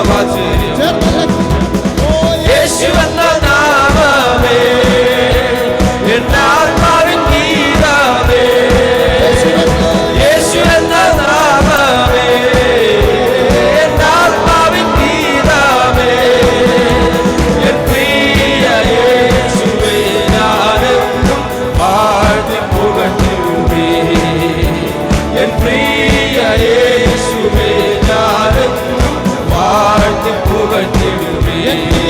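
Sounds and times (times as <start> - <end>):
person singing: 0.0 - 32.0
steady drum beat: 0.0 - 32.0
worship band music: 0.0 - 32.0.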